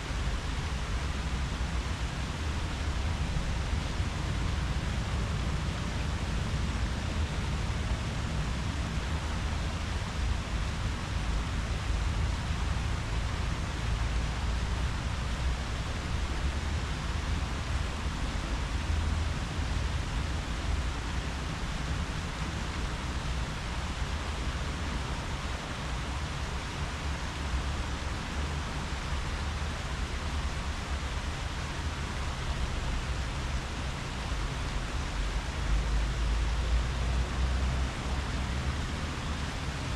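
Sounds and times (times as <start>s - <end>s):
leaves rustling in wind: 0.0s - 39.9s
low unsteady rumble: 0.0s - 39.9s.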